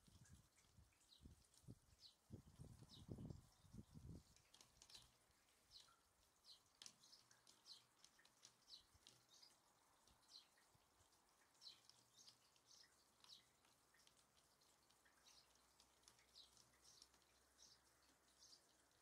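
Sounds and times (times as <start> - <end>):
songbirds chirping: 0.2 - 19.0.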